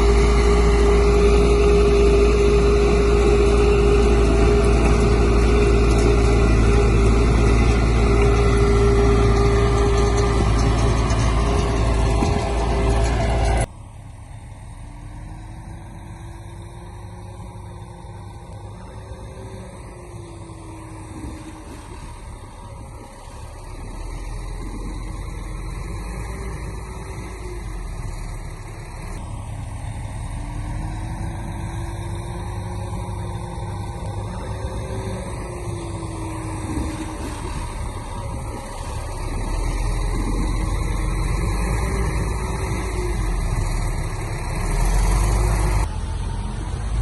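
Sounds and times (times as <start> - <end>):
construction machine diesel engine: 0.0 - 47.0.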